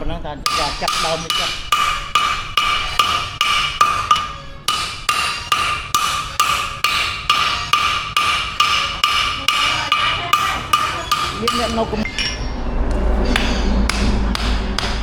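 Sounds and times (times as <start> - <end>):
hammer striking steel anvil: 0.4 - 12.4, 13.3 - 15.0.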